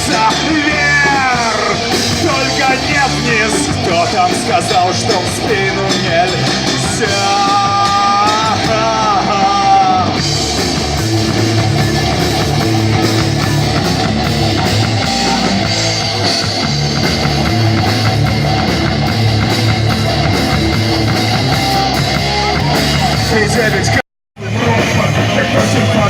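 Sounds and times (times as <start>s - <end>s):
heavy rock music: 0.0s - 26.0s.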